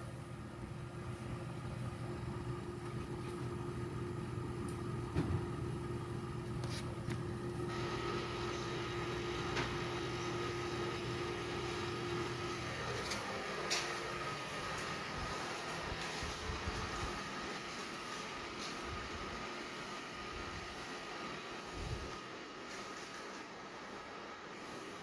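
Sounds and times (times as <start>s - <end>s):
air conditioner humming: 0.0s - 25.0s.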